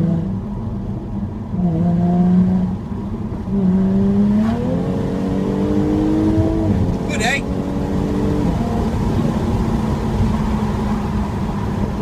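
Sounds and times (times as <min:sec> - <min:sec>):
car engine and exhaust pulling hard: 0:00.0 - 0:12.0.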